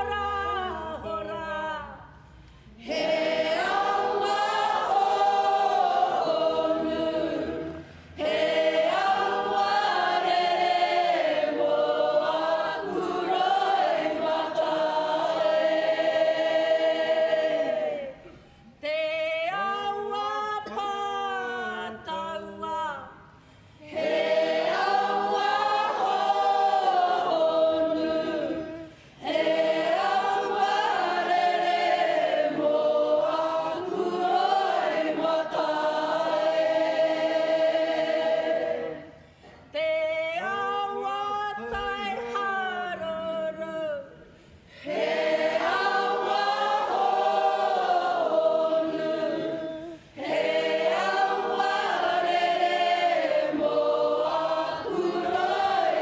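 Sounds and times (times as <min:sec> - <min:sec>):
group singing together: 0:00.0 - 0:22.8, 0:23.8 - 0:56.0.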